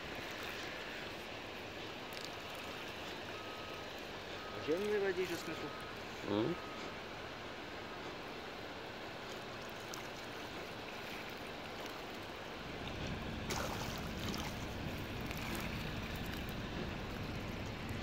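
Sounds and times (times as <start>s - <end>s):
waves lapping on pebbles: 0.0s - 5.7s, 8.2s - 18.0s.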